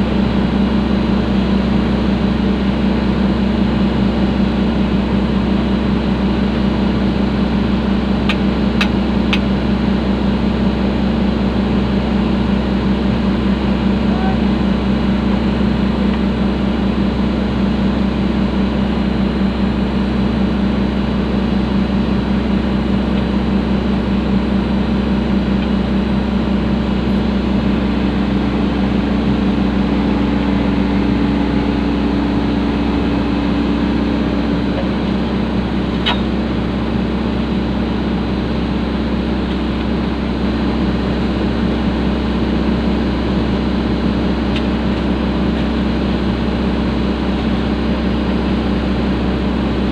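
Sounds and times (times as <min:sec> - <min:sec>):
diesel engine running: 0:00.0 - 0:49.9
higher steady hum: 0:00.0 - 0:49.9.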